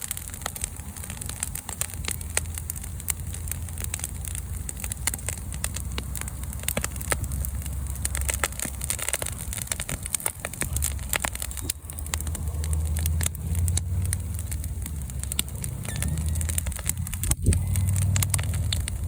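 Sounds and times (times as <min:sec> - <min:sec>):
bonfire crackling and popping: 0:00.0 - 0:19.0
low rumble: 0:00.2 - 0:19.0.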